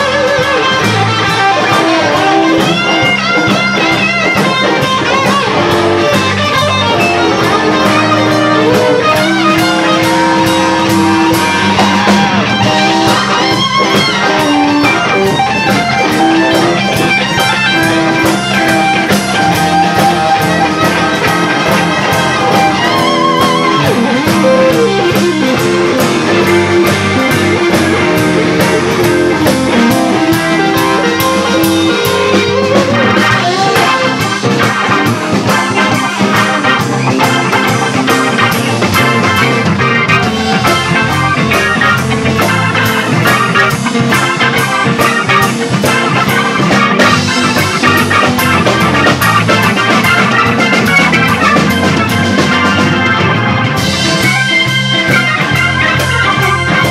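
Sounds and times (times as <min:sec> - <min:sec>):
drums: 0:00.0 - 0:56.9
electric guitars: 0:00.0 - 0:56.9.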